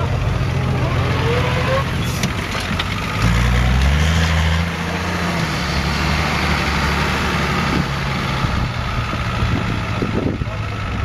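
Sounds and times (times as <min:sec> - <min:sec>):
off-road vehicle engine pulling hard: 0:00.0 - 0:11.0.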